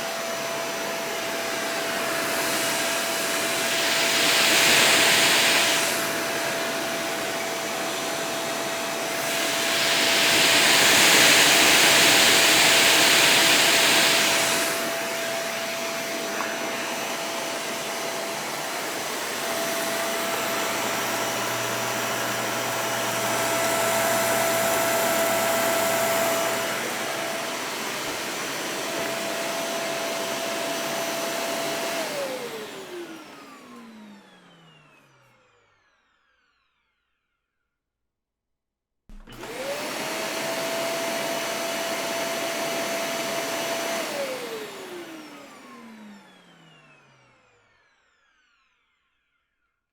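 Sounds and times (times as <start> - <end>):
vacuum cleaner running: 0.0 - 35.8, 39.1 - 47.8.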